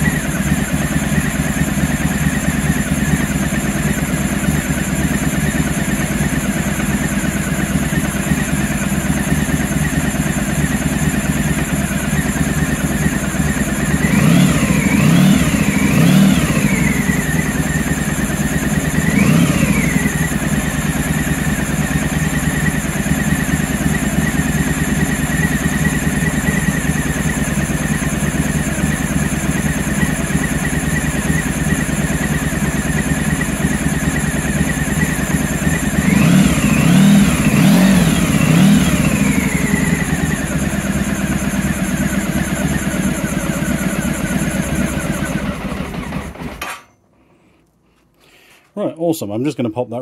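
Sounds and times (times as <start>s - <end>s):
engine revving: 0.0s - 46.6s
motorcycle engine idling: 0.0s - 46.8s.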